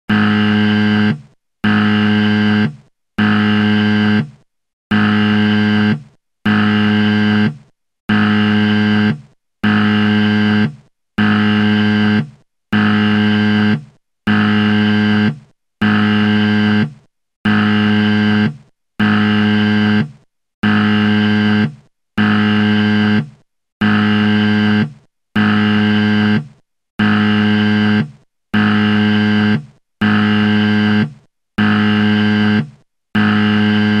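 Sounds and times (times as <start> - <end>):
harsh low buzzer: 0.1 - 34.0.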